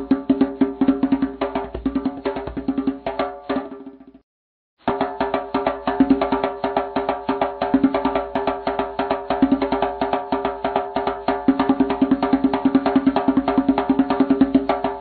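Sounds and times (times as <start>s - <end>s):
music with wood-block percussion: 0.0s - 4.0s, 4.8s - 15.0s.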